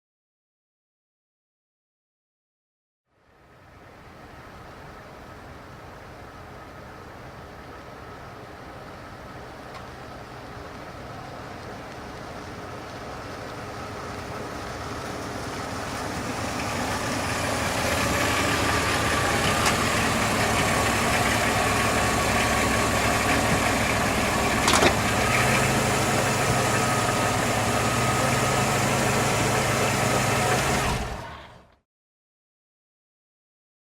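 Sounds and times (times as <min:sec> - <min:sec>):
car engine idling: 0:03.2 - 0:31.7.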